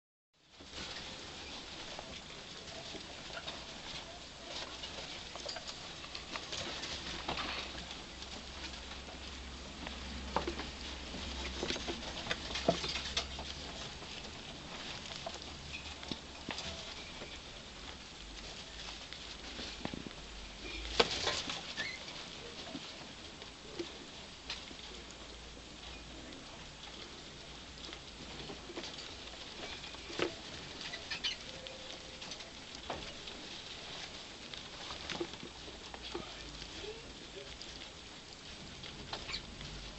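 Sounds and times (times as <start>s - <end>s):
rats eating from ceramic bowl: 0.8s - 39.9s.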